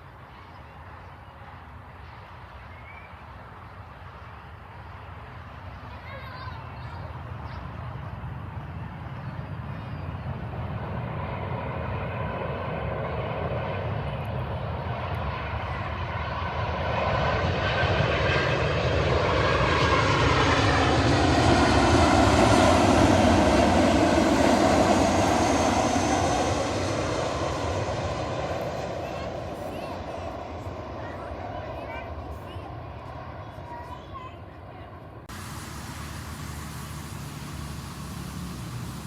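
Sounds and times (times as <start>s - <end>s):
jet engines passing by: 0.0s - 39.0s.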